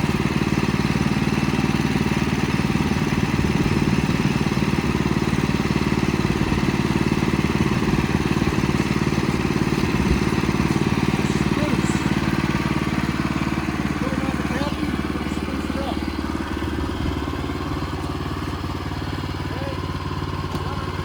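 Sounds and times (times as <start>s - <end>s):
sawmill engine running: 0.0s - 21.0s.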